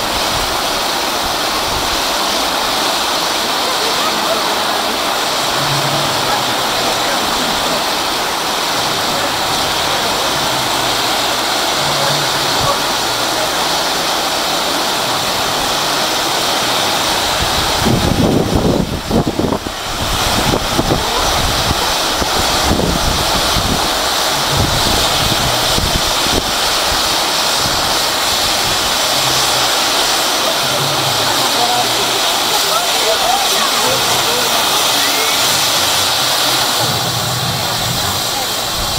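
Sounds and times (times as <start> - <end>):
spark fountains hissing: 0.0 - 38.9
uneven low rumbling: 4.9 - 32.5, 33.9 - 38.9.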